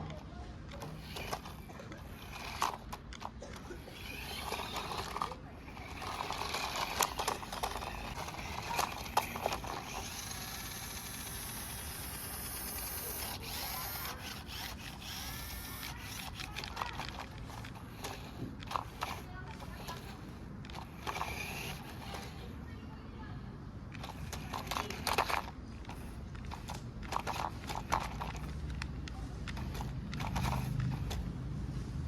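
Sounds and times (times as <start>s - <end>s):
clicks and scrapes: 0.0s - 22.8s, 23.9s - 31.4s
small electric motor whirring: 0.0s - 22.8s, 23.8s - 32.0s.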